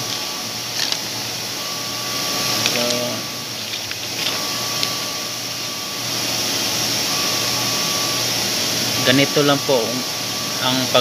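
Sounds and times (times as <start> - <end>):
machine whirring: 0.0 - 11.0.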